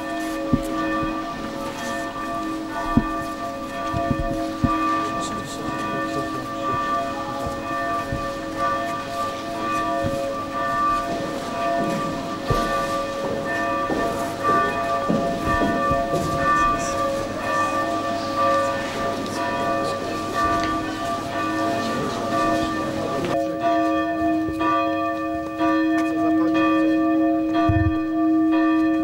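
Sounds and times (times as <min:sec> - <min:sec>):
church bells ringing: 0:00.0 - 0:29.0
procession footsteps and murmur: 0:00.0 - 0:29.0.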